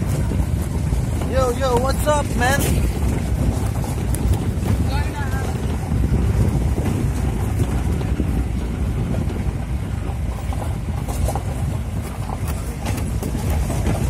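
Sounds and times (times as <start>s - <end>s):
vehicle body rattles and knocks: 0.0s - 14.0s
vehicle low rumble on gravel: 0.0s - 14.0s.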